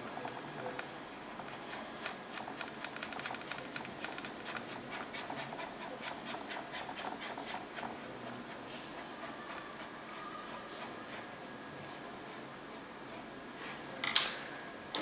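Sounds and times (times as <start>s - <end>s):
paintbrush scratchy strokes: 1.2s - 13.8s.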